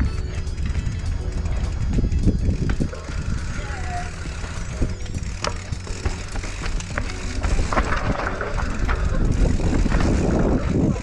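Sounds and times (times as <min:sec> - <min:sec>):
bike and rocks clicking rattling: 0:00.0 - 0:11.0
tyres rumbling over dirt: 0:00.0 - 0:11.0.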